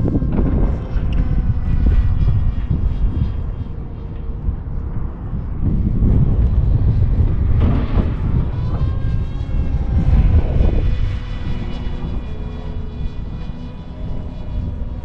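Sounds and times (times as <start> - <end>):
rc plane motor whine: 0.0 - 15.0
wind buffeting microphone: 0.0 - 15.0.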